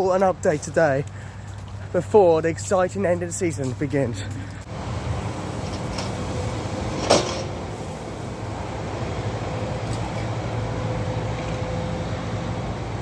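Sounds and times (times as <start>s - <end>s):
construction machinery engines droning: 0.0s - 13.0s.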